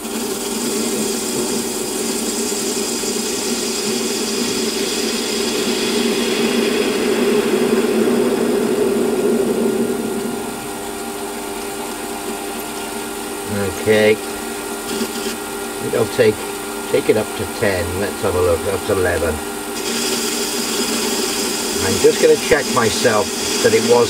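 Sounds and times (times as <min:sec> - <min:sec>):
hissing cutting noise: 0:00.0 - 0:24.0
metal lathe whine: 0:00.0 - 0:24.0.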